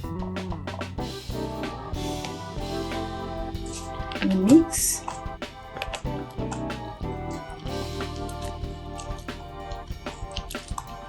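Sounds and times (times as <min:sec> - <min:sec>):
soft instrumental music with beat: 0:00.0 - 0:11.0.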